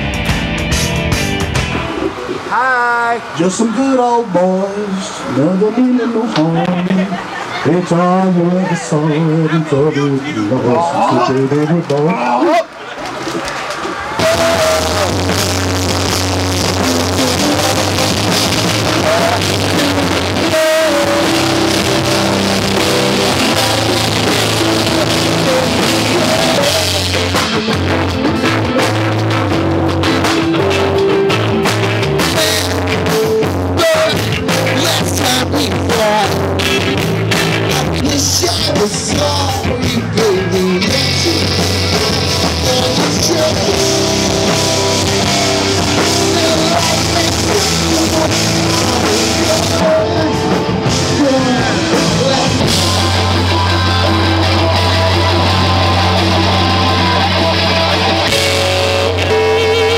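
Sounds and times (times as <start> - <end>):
drum kit: 0.0 - 2.4, 13.2 - 59.9
loud rock music: 0.0 - 12.6, 13.2 - 59.9
electric guitar: 0.0 - 59.9.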